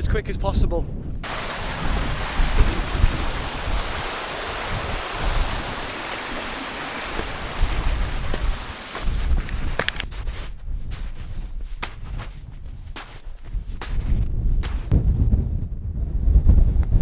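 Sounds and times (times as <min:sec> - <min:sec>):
strong wind gusting on microphone: 0:00.0 - 0:17.0.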